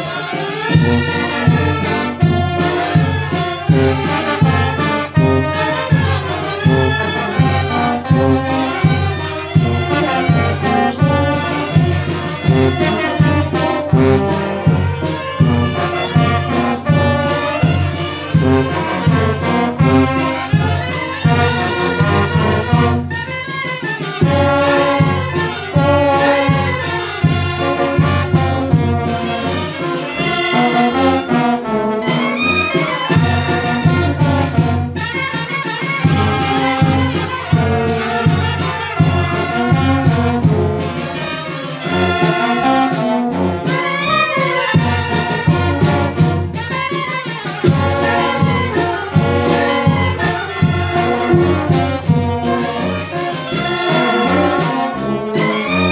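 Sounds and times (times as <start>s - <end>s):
wind band playing: 0.0s - 55.9s.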